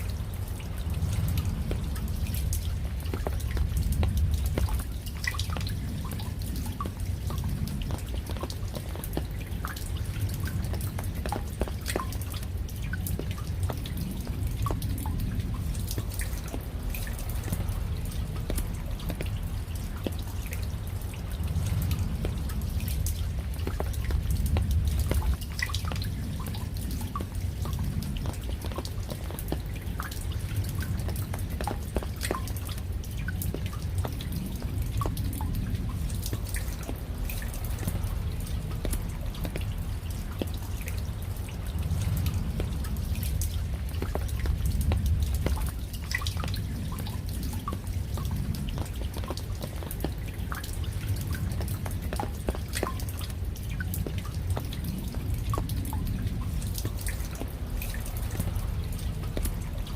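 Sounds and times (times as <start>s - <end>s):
low rumble of rain: 0.0s - 59.9s
raindrops pattering: 0.0s - 59.9s.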